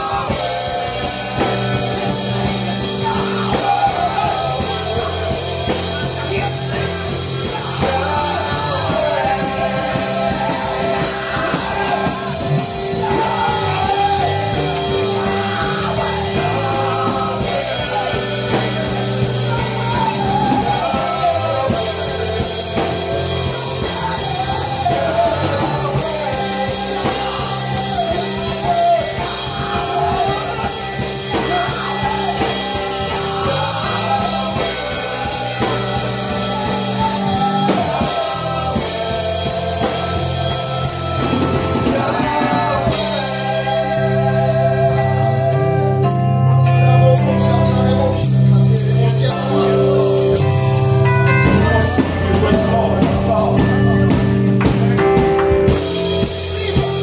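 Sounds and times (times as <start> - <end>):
group singing worship song: 0.0 - 57.0
instrumental backing with beat: 0.0 - 57.0.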